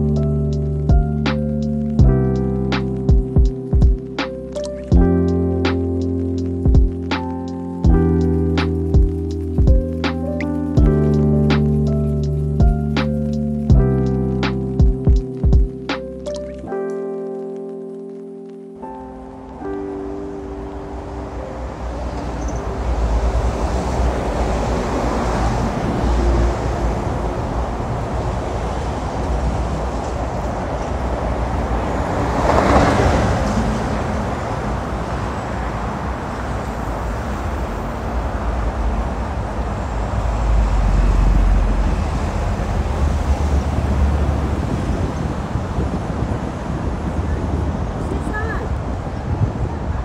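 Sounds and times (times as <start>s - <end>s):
city street traffic rumble: 0.0s - 16.6s, 18.5s - 50.0s.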